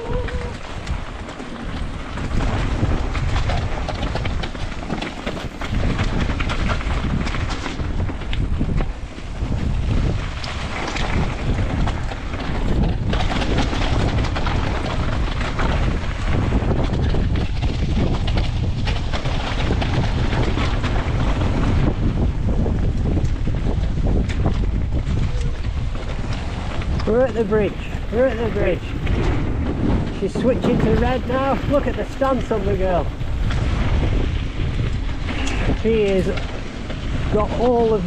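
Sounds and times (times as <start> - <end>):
bike clattering over rocks: 0.0 - 38.0
wind buffeting microphone: 0.0 - 38.0.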